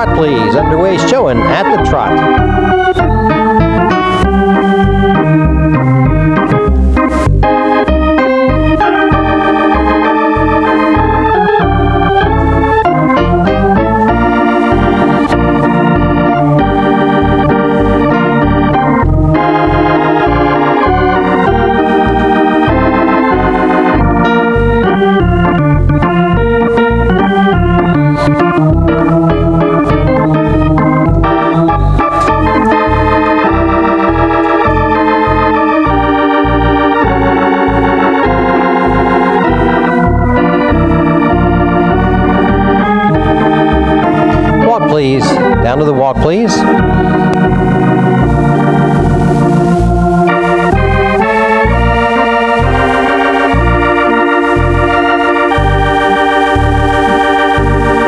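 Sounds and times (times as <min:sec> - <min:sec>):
lively organ music: 0:00.0 - 0:58.0.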